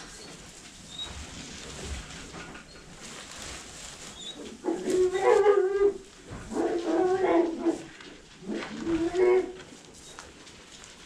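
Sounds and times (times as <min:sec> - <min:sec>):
low rustling: 0:00.0 - 0:11.0.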